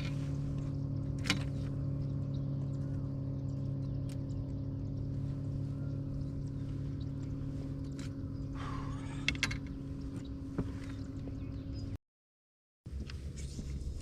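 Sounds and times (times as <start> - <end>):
electric motor humming: 0.0 - 11.8.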